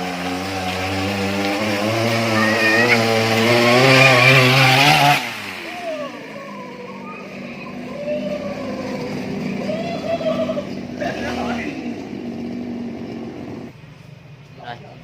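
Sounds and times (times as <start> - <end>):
lawn mower engine buzzing: 0.0 - 13.8.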